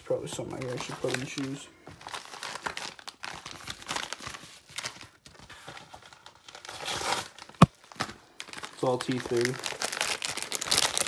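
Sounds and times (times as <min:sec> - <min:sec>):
paper packaging crinkling and tearing: 0:00.3 - 0:11.0.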